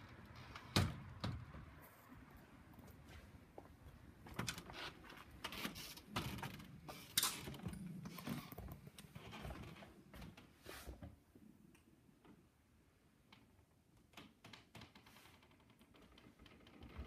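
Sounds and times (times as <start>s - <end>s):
knocks clicks and rustles of walking: 0.0s - 12.6s, 13.2s - 17.0s.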